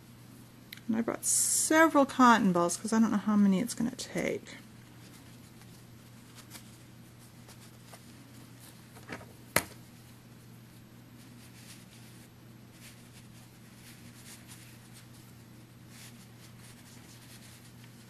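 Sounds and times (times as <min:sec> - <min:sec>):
steady low hum: 0:00.0 - 0:18.0
soft rustling of fabric: 0:00.4 - 0:18.0.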